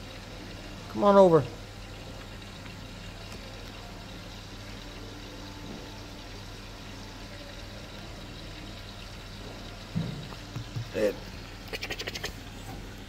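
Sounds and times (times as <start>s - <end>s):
water filter humming: 0.0s - 13.0s
water trickling: 0.0s - 13.0s.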